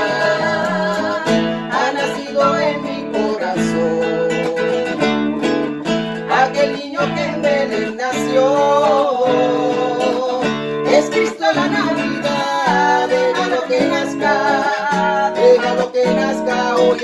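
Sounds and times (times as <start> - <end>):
acoustic guitar strumming: 0.0 - 17.0
man and woman singing: 0.0 - 17.0.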